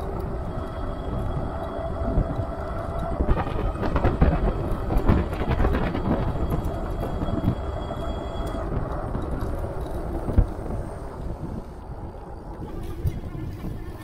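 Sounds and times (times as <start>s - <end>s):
faint high whine: 0.0s - 14.0s
tyre and road rumble: 0.0s - 14.0s.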